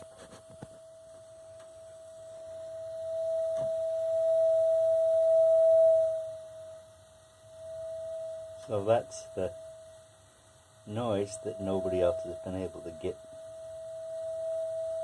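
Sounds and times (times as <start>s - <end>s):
water heater tone: 0.0s - 15.0s.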